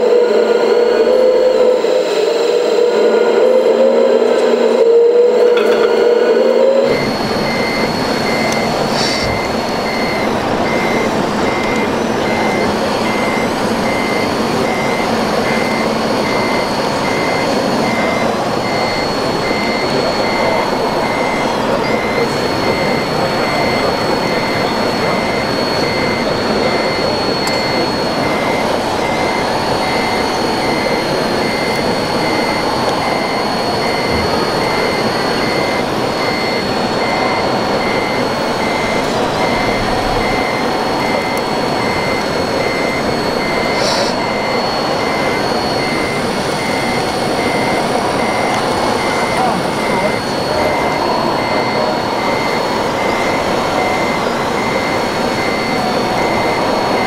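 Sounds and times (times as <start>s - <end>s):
back-up alarm beeping: 0.0s - 57.0s
toy machine motor whine: 6.5s - 57.0s.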